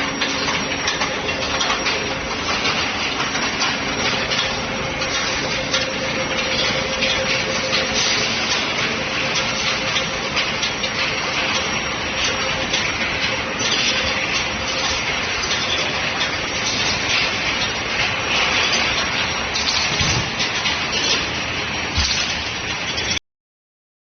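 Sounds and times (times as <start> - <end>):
industrial machinery din: 0.0 - 23.2.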